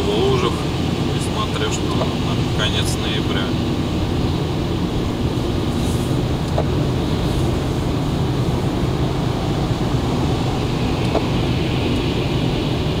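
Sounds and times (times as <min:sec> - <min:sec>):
car engine drone: 0:00.0 - 0:13.0
tyres hissing on wet road: 0:00.0 - 0:13.0.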